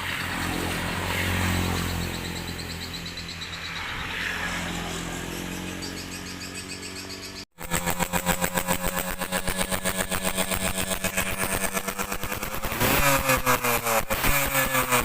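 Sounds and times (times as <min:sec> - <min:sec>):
motorcycle engine running: 0:00.0 - 0:04.0, 0:04.8 - 0:15.0.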